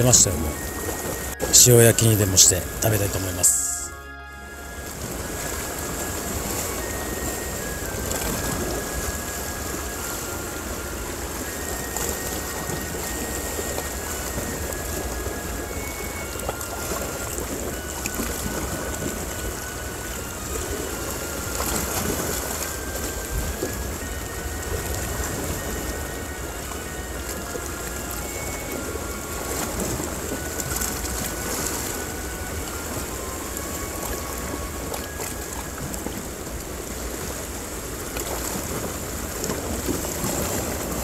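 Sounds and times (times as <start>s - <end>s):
soft background music: 0.0s - 41.0s
surf washing against rocks: 4.9s - 41.0s.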